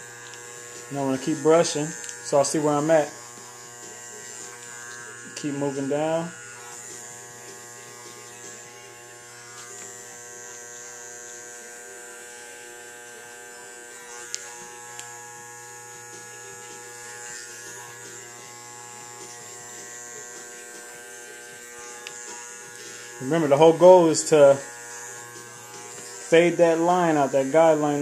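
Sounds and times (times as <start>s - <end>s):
hair clippers buzzing: 0.0s - 28.0s.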